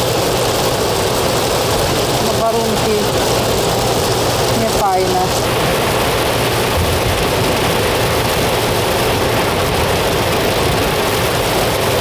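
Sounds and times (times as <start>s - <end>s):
engine rumble: 0.0s - 12.0s
heavy rain on vehicle: 0.0s - 12.0s.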